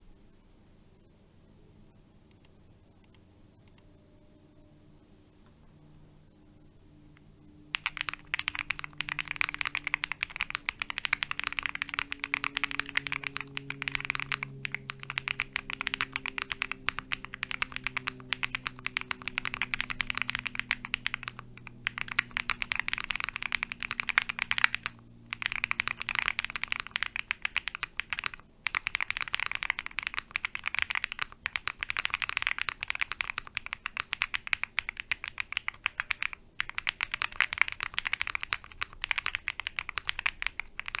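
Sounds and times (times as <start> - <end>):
typing on a mechanical keyboard: 7.7 - 41.0.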